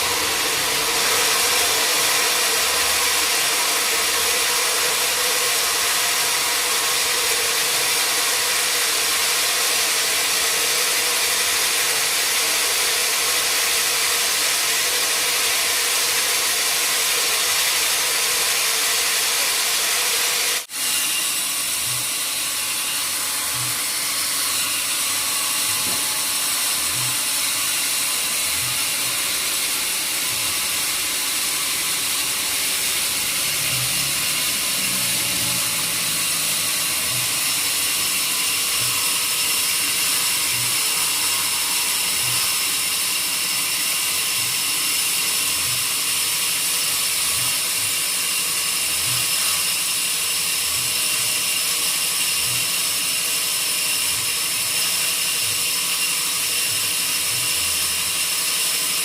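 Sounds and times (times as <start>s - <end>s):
machine whining tones: 0.0s - 59.0s
sawmill machinery hissing: 0.0s - 59.0s.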